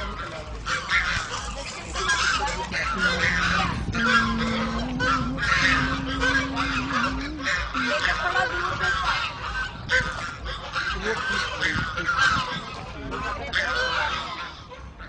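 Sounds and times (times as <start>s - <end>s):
geese honking and chattering: 0.0s - 15.0s.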